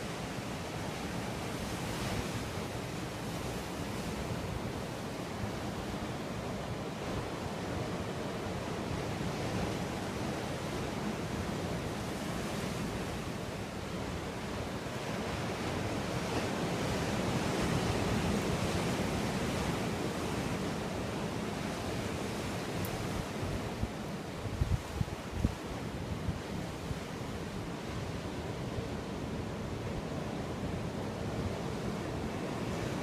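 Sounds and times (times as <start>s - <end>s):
ocean surf on rocky shore: 0.0s - 33.0s
wind: 0.0s - 33.0s.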